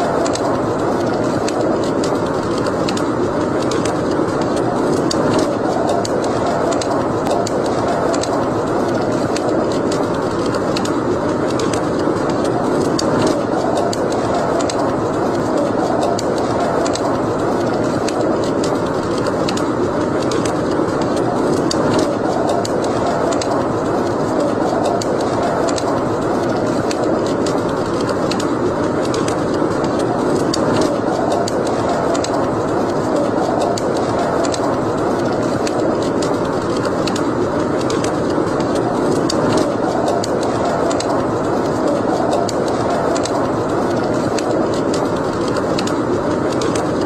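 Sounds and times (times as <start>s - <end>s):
fire crackling and popping: 0.0s - 47.0s
fire roaring: 0.0s - 47.0s.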